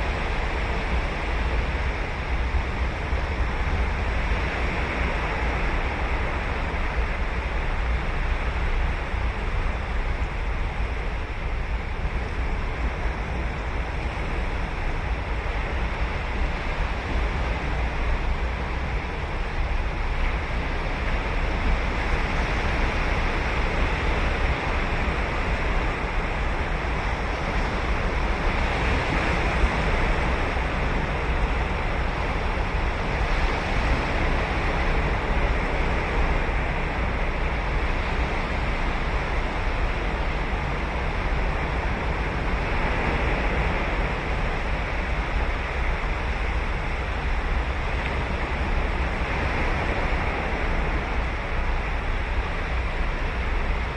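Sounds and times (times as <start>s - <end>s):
ocean waves breaking on beach: 0.0s - 53.9s
wind rumble on microphone: 0.0s - 53.9s.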